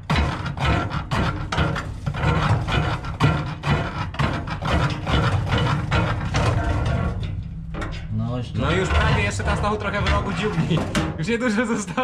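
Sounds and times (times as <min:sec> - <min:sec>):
hands scraping metal: 0:00.0 - 0:08.0, 0:08.6 - 0:11.1.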